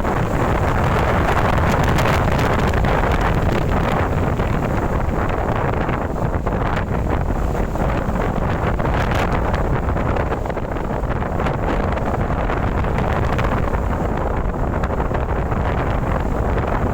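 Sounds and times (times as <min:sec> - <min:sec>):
storm wind buffeting microphone: 0:00.0 - 0:16.9.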